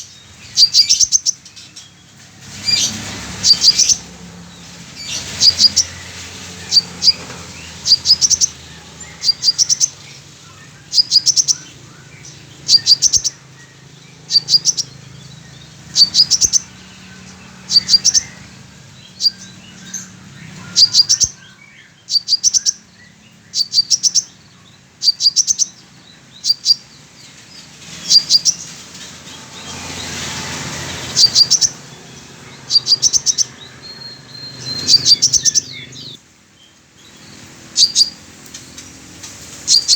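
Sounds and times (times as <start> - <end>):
rain hiss: 0.0 - 39.9
sunbird chirping rapidly: 0.0 - 39.9.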